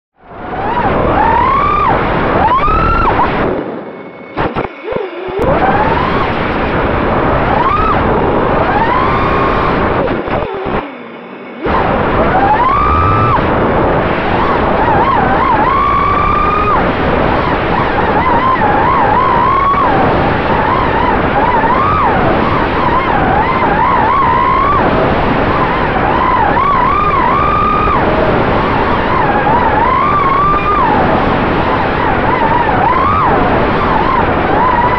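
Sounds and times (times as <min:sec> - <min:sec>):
wind rush: 0:00.2 - 0:34.9
drone motors whining: 0:00.3 - 0:34.9.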